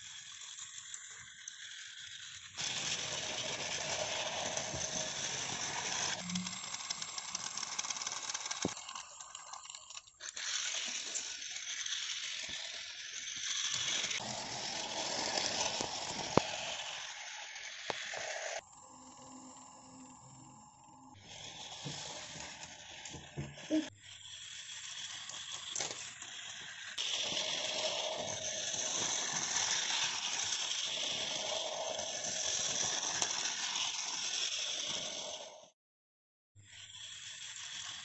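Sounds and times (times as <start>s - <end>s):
toy train rattling whir: 0.0s - 35.8s, 36.6s - 38.0s.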